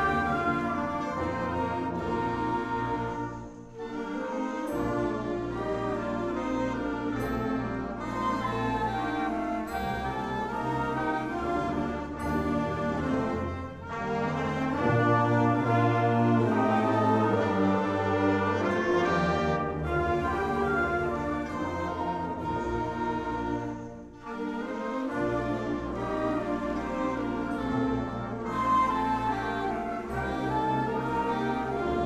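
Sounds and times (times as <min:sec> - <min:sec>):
brass playing held chords: 0:00.0 - 0:32.0
concert band music: 0:00.0 - 0:32.0.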